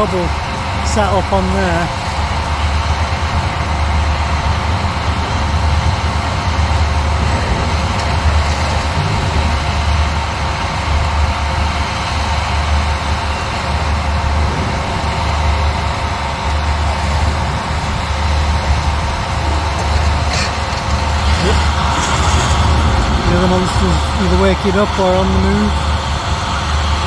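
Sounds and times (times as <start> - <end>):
excavator diesel engine drone: 0.0 - 27.0.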